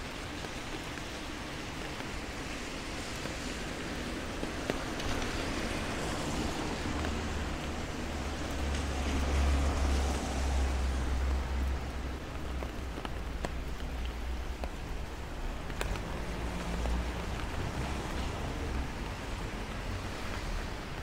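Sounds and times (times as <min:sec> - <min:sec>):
steady rain: 0:00.0 - 0:21.0
tyres hissing on wet road: 0:00.0 - 0:21.0.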